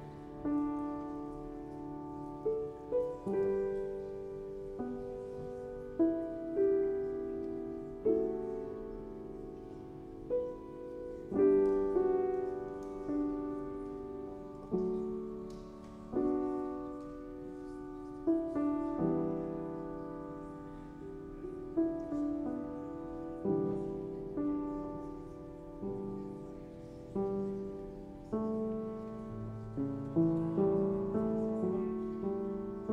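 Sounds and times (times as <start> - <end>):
gentle solo piano music: 0.0 - 32.9.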